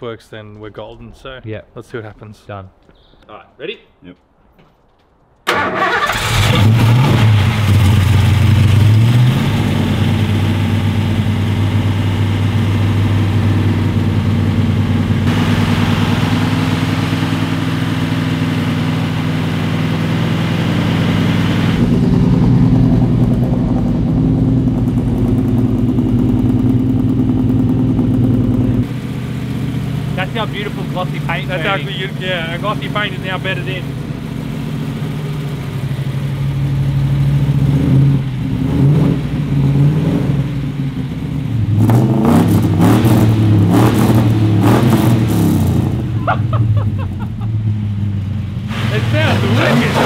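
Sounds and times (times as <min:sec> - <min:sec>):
car engine starting and revving: 0:05.5 - 0:50.0.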